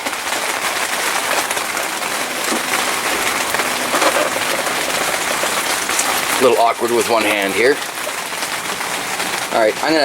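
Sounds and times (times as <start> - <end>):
water splashing from small waterfall: 0.0 - 10.0.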